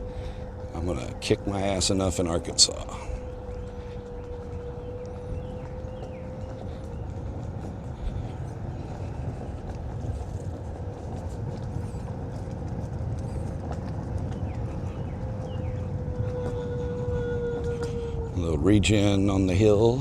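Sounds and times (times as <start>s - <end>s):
electric hub motor whining: 0.0s - 20.0s
tyre and wind rumble: 0.0s - 20.0s.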